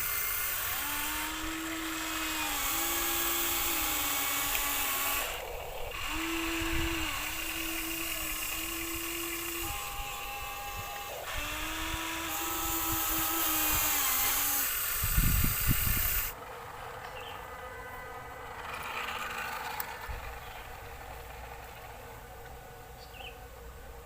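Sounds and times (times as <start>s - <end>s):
toy electric motors whining: 0.0s - 16.4s, 18.1s - 22.4s.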